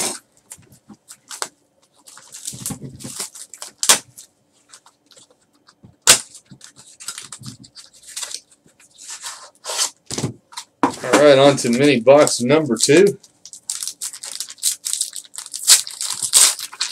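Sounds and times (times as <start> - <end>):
foil wrappers crinkling and tearing: 0.0 - 10.0, 11.2 - 16.9.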